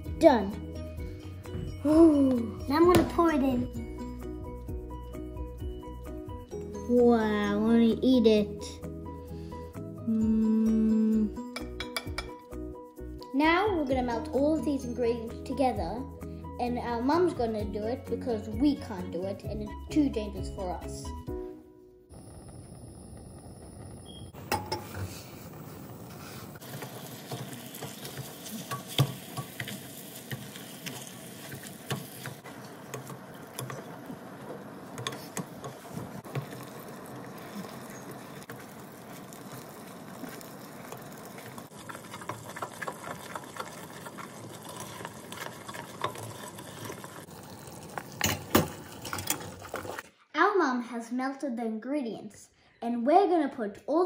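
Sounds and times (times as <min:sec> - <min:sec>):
butter and sugar sizzling: 0:00.0 - 0:21.0, 0:22.1 - 0:50.1.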